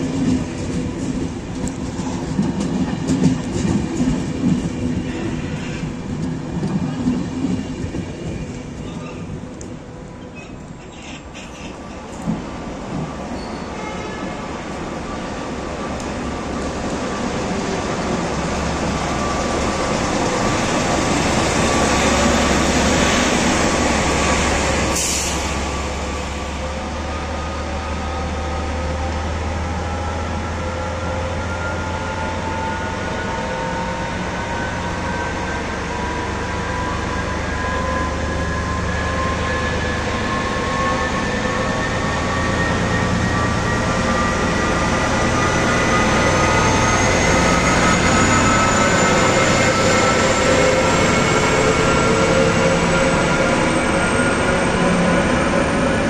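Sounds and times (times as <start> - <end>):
locomotive engine droning: 0.0 - 56.0.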